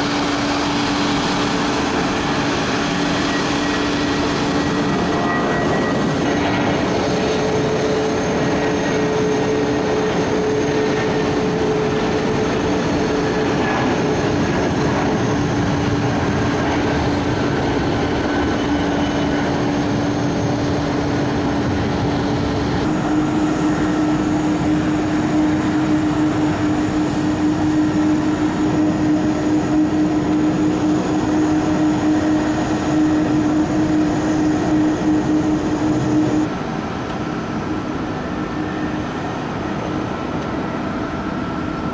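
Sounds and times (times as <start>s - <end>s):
vehicle mechanical drone: 0.0s - 41.9s.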